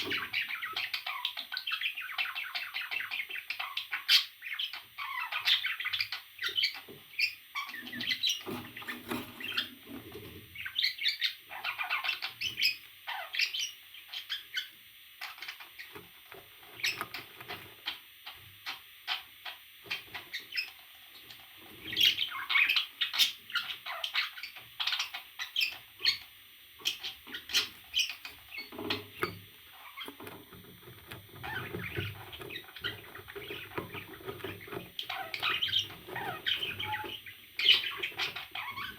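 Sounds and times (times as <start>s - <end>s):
parrot chirping and squawking: 0.0s - 9.9s, 10.5s - 15.9s, 16.8s - 38.9s.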